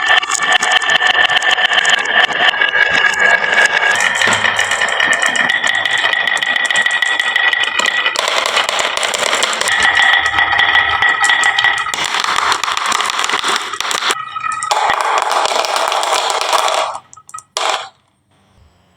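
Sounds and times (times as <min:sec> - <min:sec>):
marbles rolling down wooden run: 0:00.0 - 0:18.0.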